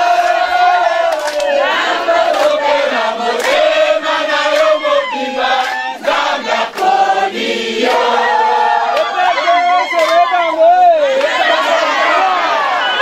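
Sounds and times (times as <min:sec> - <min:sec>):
crowd singing and chanting: 0:00.0 - 0:13.0.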